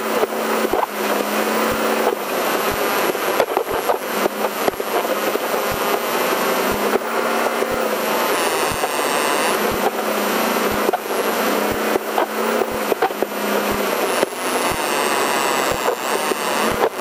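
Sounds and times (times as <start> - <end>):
off-road vehicle engine running hard: 0.0 - 17.0
wind and drivetrain noise: 0.0 - 17.0.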